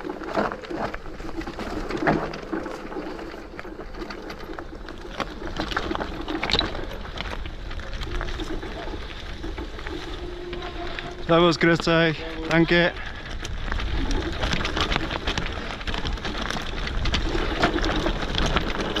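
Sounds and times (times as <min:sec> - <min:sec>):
bike knocking and rattling: 0:00.0 - 0:19.0
wind rumble on microphone: 0:00.0 - 0:19.0.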